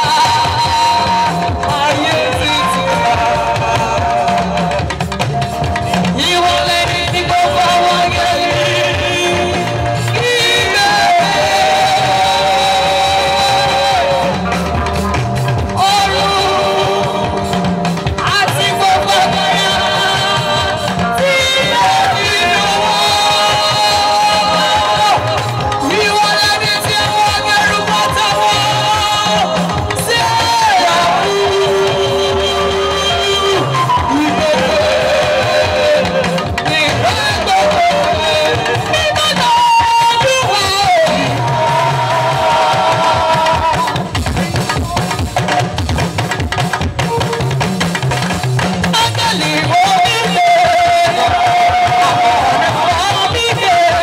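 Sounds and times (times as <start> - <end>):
person singing: 0.0 - 45.6, 48.8 - 54.0
band with drums and guitar: 0.0 - 54.0.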